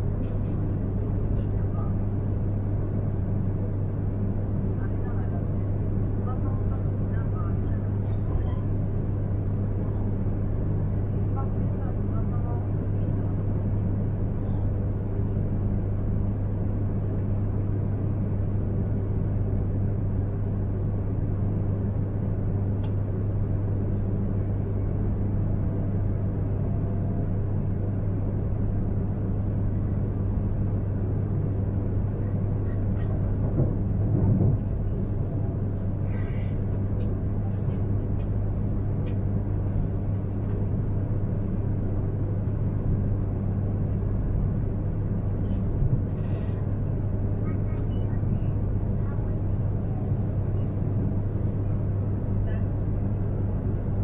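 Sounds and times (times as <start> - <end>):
train cabin low hum: 0.0 - 54.0.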